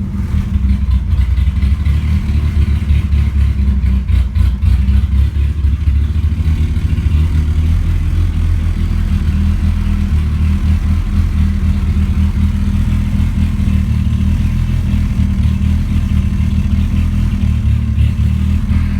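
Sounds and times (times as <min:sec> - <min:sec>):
loud lumpy car engine idling: 0:00.0 - 0:18.9.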